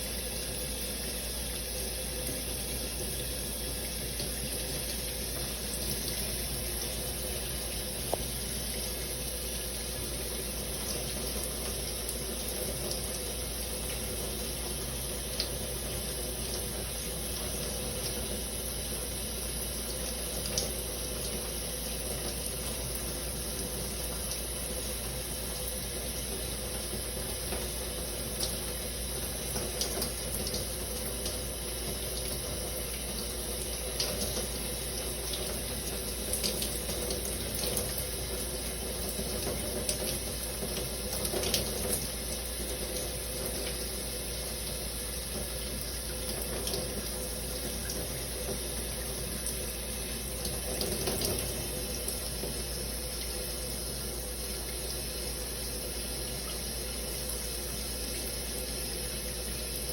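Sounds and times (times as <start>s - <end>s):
shower water spraying: 0.0s - 59.9s.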